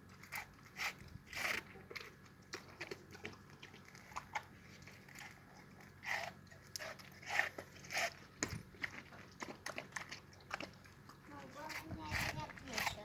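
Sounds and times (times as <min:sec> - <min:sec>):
dog crunching watermelon: 0:00.0 - 0:13.0.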